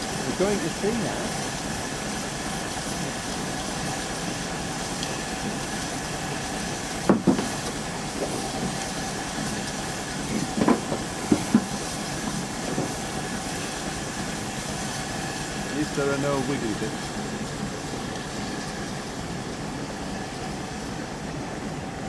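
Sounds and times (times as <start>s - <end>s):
steam engine running: 0.0s - 22.0s
steam hissing: 0.0s - 22.0s.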